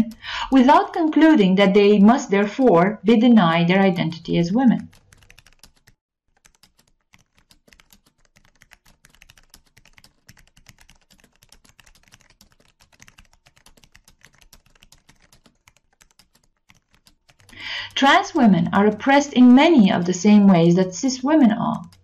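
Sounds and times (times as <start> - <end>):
faint fast keyboard typing: 0.0 - 22.0.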